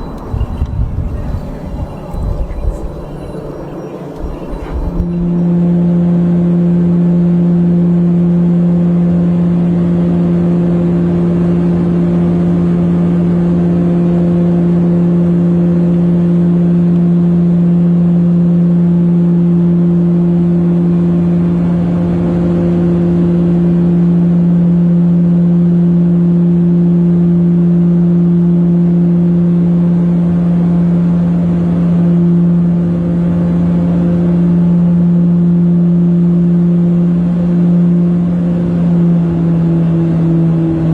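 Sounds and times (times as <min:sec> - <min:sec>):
propeller aircraft engines running: 0:00.0 - 0:40.9.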